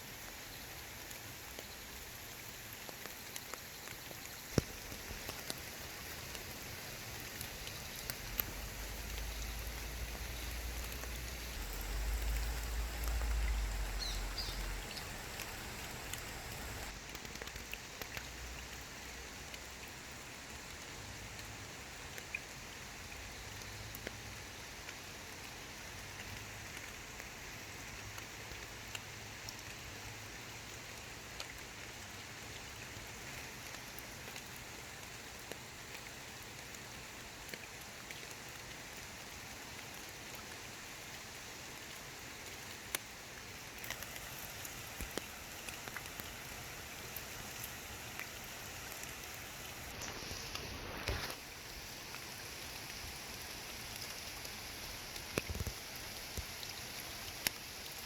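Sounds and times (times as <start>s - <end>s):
light rain falling on water: 0.0s - 58.0s
raindrops ticking: 0.1s - 40.7s, 41.3s - 58.0s.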